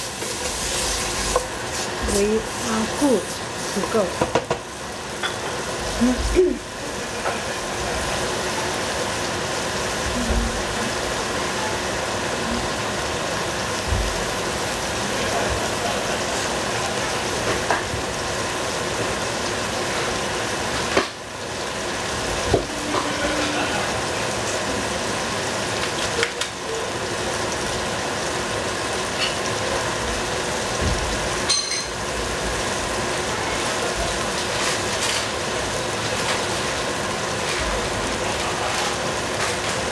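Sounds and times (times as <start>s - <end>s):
covered pan sizzling: 0.0s - 39.9s.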